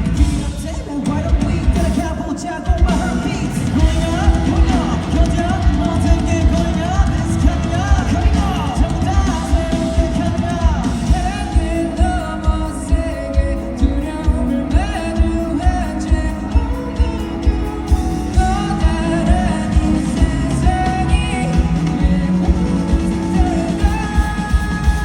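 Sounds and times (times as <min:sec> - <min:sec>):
live rock band: 0:00.0 - 0:25.0
person singing: 0:00.0 - 0:25.0
steady drum beat: 0:00.0 - 0:25.0.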